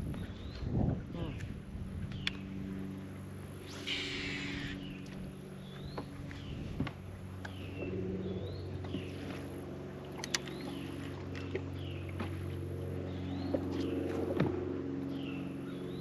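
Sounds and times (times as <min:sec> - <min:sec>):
electric trolling motor humming: 0:00.0 - 0:16.0.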